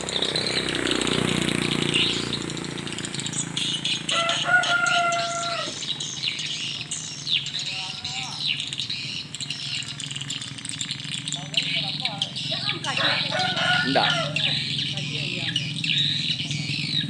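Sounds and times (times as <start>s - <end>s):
rush of wingbeats: 0.0s - 17.0s
swiftlets twittering: 0.0s - 17.0s.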